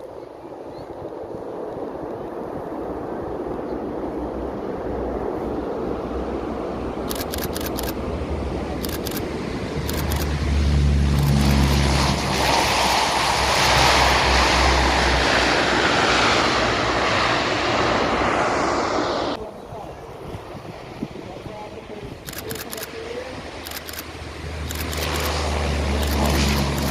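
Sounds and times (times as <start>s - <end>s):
aircraft flying past: 0.1s - 26.9s.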